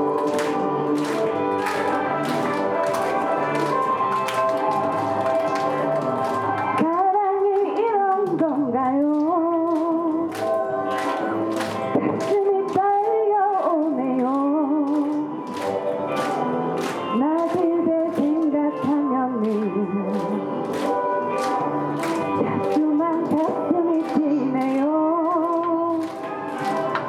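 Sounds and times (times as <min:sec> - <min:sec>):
instrumental accompaniment with beat: 0:00.0 - 0:07.6, 0:09.0 - 0:27.0.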